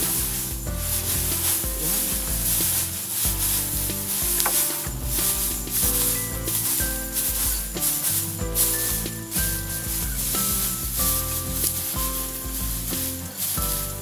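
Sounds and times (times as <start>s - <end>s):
background music: 0.0s - 14.0s
dry straw rustling underfoot: 0.0s - 14.0s.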